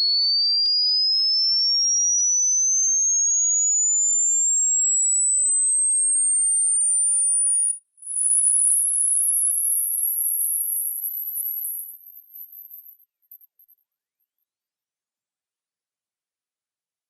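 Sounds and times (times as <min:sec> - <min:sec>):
high-pitched hearing test tone: 0:00.0 - 0:13.7.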